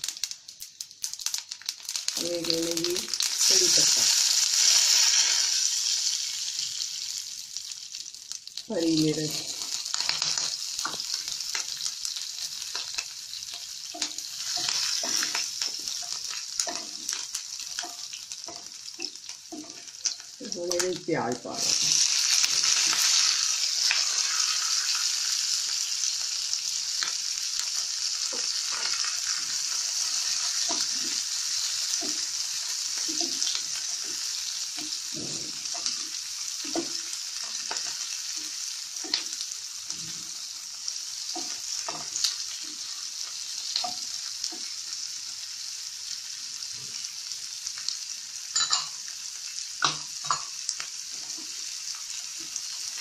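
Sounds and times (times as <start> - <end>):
onions sizzling in oil: 0.0 - 53.0.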